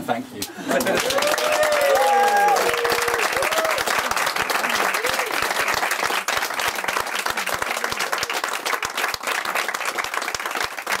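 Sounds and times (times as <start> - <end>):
crowd applauding: 0.6 - 11.0.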